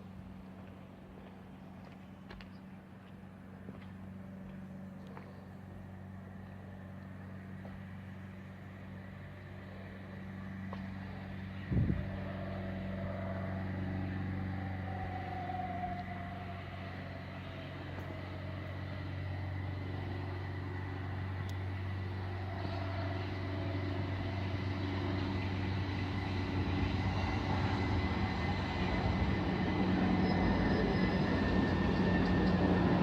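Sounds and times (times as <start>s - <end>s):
train rumble: 0.0s - 33.0s
faint high whine: 4.1s - 33.0s.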